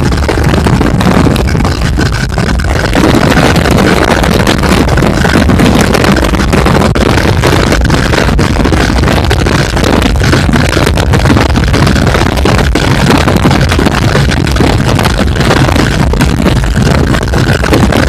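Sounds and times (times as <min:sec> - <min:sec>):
motorcycle engine at high revs: 0:00.0 - 0:18.0
wind rushing over microphone: 0:00.0 - 0:18.0.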